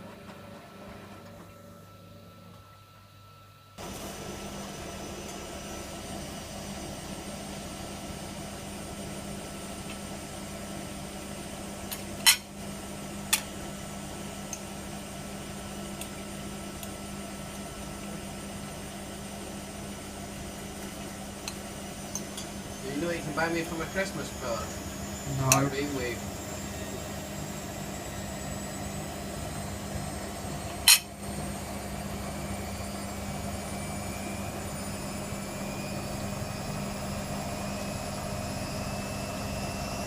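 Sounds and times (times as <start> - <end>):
washer-dryer humming: 0.0 - 40.0.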